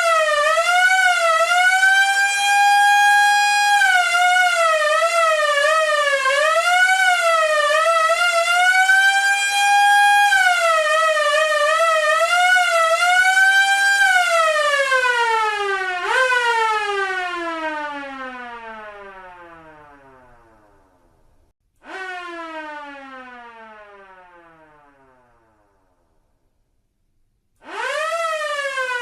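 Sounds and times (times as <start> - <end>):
police siren wailing: 0.0 - 20.5, 21.8 - 25.2, 27.6 - 29.0.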